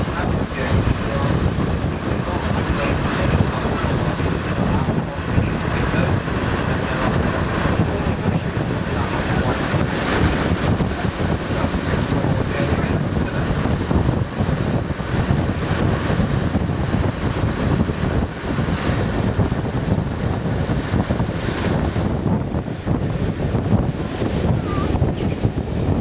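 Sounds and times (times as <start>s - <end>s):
railcar rumbling on track: 0.0s - 26.0s
wind buffeting microphone: 0.0s - 26.0s.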